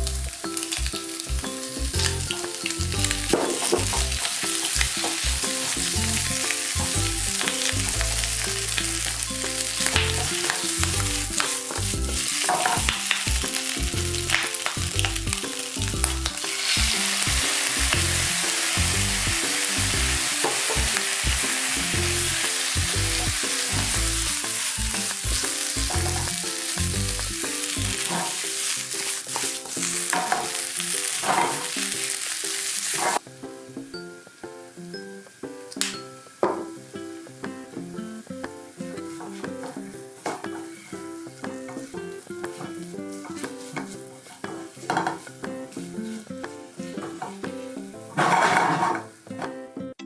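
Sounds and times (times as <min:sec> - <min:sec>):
food sizzling in a frying pan: 0:00.0 - 0:49.3.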